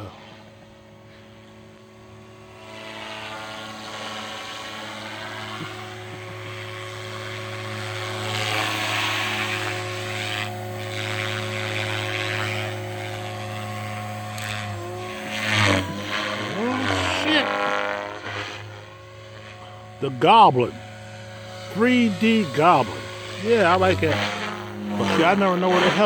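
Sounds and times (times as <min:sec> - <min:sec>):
rc helicopter motor whine: 0:00.0 - 0:26.0
rotor blades rushing: 0:00.0 - 0:26.0.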